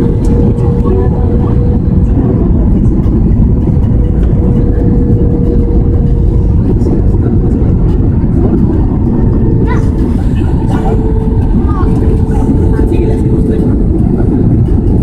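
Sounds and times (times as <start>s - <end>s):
airliner cabin engine noise: 0.0s - 15.0s
steady hum: 0.0s - 15.0s.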